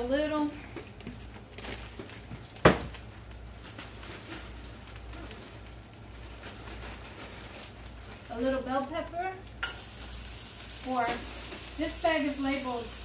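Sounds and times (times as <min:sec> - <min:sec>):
sausage sizzling in a skillet: 0:00.0 - 0:13.0.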